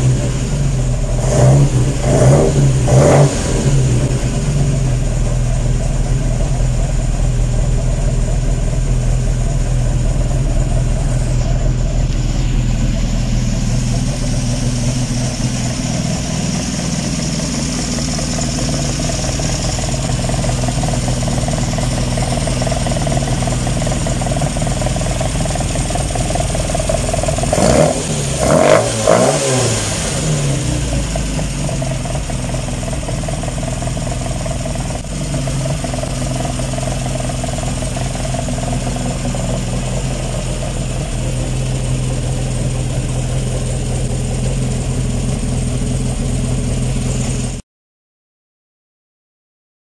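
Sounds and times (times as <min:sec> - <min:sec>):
car engine idling and revving: 0:00.0 - 0:47.6.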